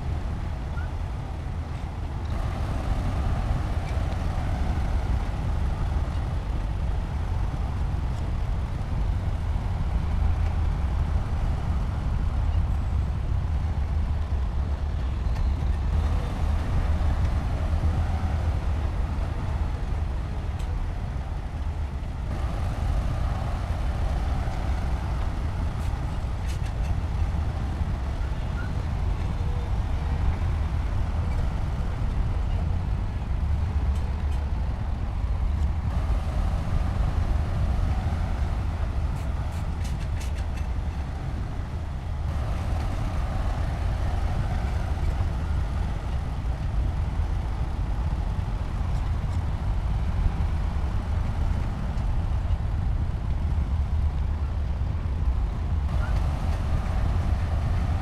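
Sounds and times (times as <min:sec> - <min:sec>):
heavy diesel engine rumbling: 0:00.0 - 0:58.0.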